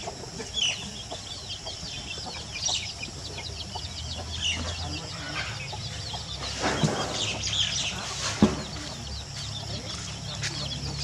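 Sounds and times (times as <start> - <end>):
birds chirping and calling: 0.0 - 11.0
steady low hum: 0.0 - 11.0.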